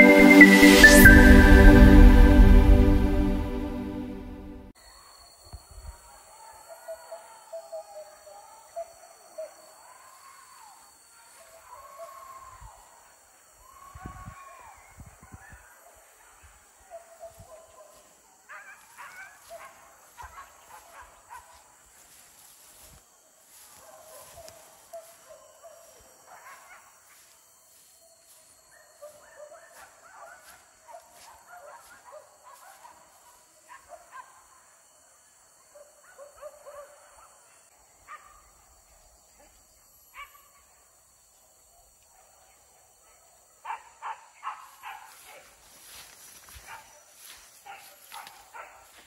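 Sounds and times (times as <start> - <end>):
faint dogs barking and yelping: 5.9 - 49.0.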